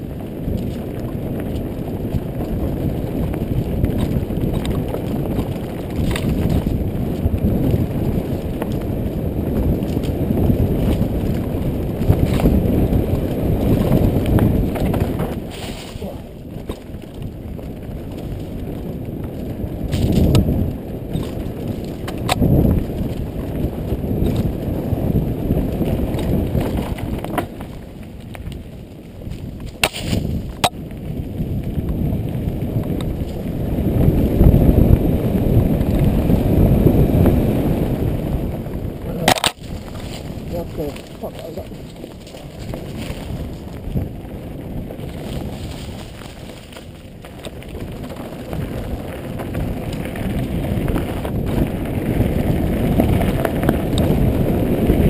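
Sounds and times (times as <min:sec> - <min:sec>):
bike tyres rumbling on dirt: 0:00.0 - 0:55.0
bike clacking and rattling: 0:00.1 - 0:37.9, 0:38.7 - 0:55.0.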